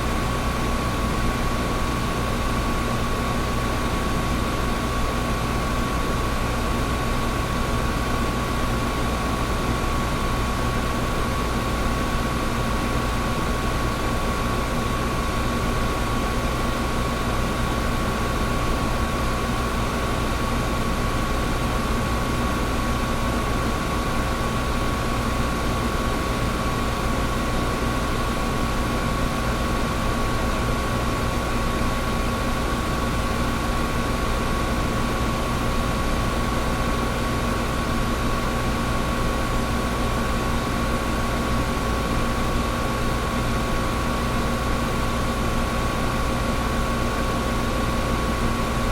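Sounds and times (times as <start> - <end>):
air conditioner running: 0.0 - 48.9.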